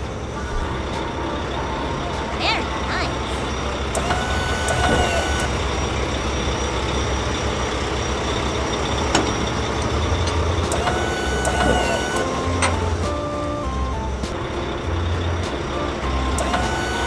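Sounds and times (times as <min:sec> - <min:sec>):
heavy engine running: 0:00.0 - 0:17.0.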